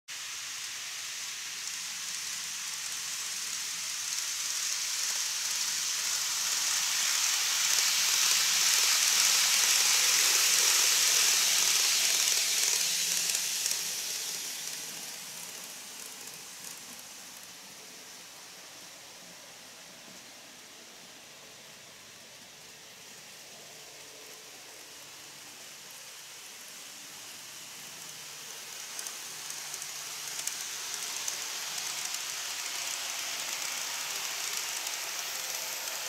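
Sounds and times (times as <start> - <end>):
model train rolling hiss: 0.1 - 36.0.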